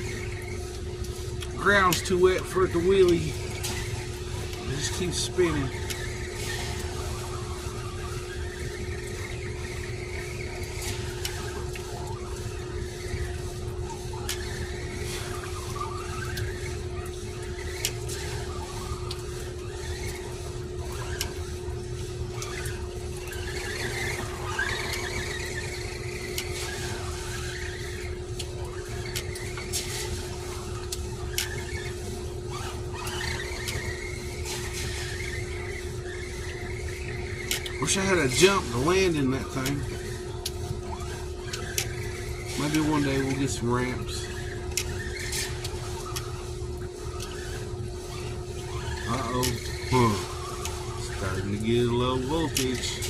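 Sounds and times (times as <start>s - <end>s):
scattered clicks: 0.0s - 53.0s
steady low hum: 0.0s - 53.0s
electric toy truck motor whining: 1.6s - 21.5s, 22.2s - 53.0s.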